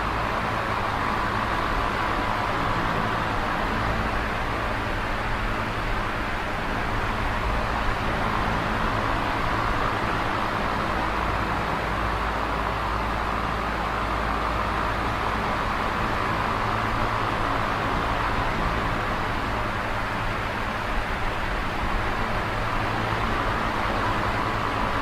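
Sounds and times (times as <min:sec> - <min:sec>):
box fan rushing air: 0:00.0 - 0:25.0.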